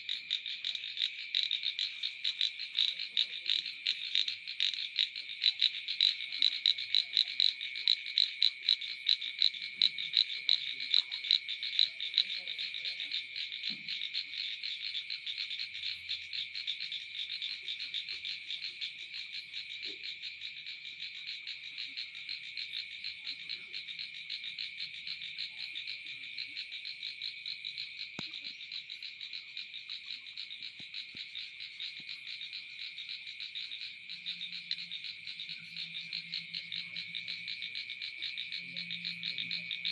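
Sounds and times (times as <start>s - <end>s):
frogs calling in chorus: 0.0s - 39.9s.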